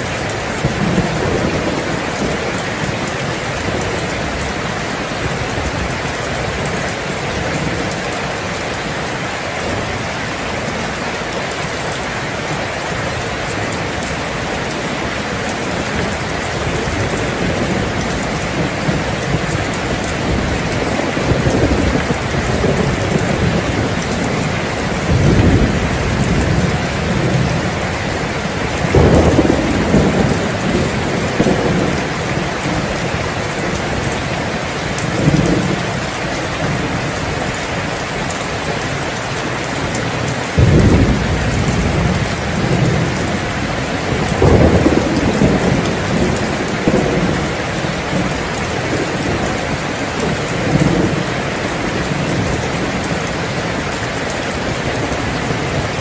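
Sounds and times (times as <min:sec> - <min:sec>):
heavy rain: 0:00.0 - 0:56.0
thunder rumbling: 0:00.0 - 0:56.0.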